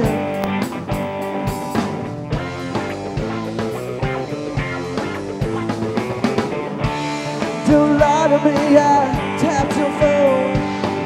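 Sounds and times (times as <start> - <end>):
drum beat: 0.0 - 8.9
distorted electric guitar chords: 0.0 - 11.0.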